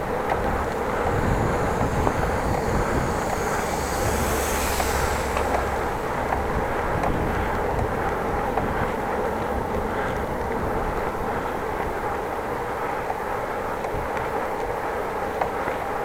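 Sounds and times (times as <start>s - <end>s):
wind and rolling bicycle tyres: 0.0s - 16.0s.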